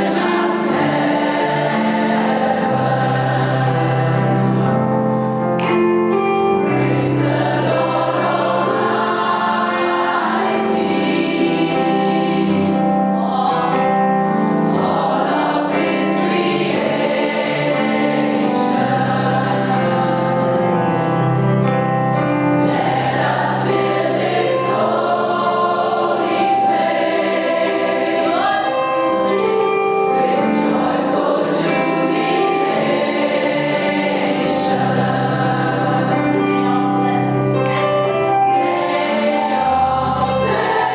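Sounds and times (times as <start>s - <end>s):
gospel choir singing: 0.0s - 5.5s, 6.1s - 40.9s.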